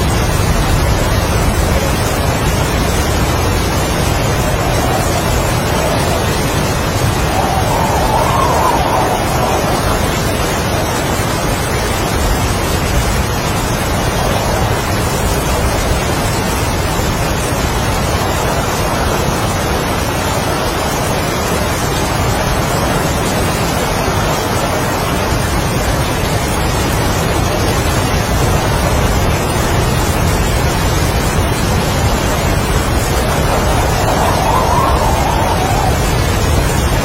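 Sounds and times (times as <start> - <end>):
heavy rain: 0.0 - 37.0
strong wind: 0.0 - 37.0.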